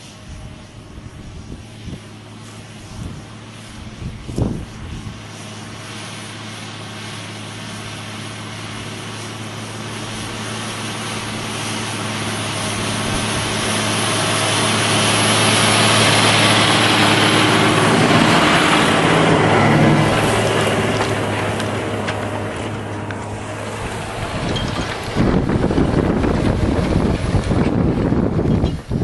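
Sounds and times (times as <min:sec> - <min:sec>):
broad rushing noise: 0:00.0 - 0:29.0
tractor diesel engine hum: 0:00.0 - 0:29.0.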